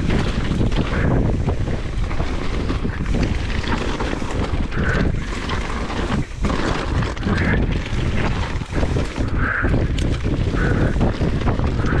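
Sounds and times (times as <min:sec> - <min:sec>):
mountain bike rattling on trail: 0:00.0 - 0:12.0
wind buffeting microphone: 0:00.0 - 0:12.0.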